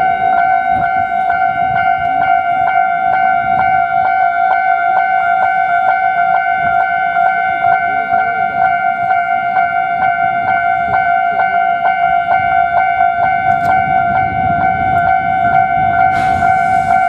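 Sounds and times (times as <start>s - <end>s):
level crossing warning bell: 0.0s - 17.0s.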